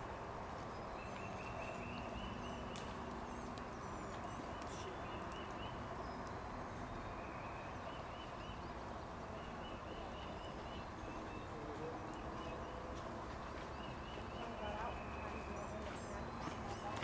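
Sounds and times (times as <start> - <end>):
outdoor background noise: 0.0 - 17.0
bird chirping: 0.5 - 17.0.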